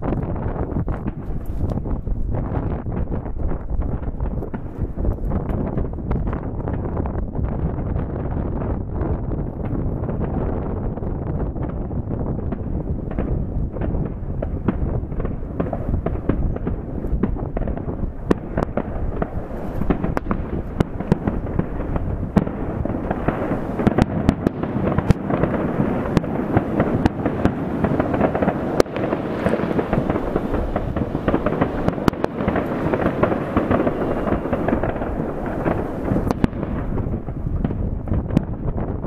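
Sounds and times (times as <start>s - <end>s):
distant fireworks rumble: 0.0s - 39.0s
firework cracks and pops: 0.0s - 39.0s.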